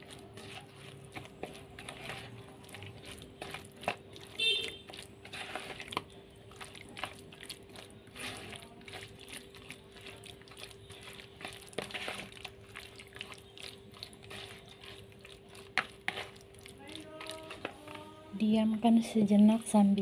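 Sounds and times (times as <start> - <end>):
spoon scraping bowl: 0.0 - 18.5
wet batter squelching: 0.0 - 20.0.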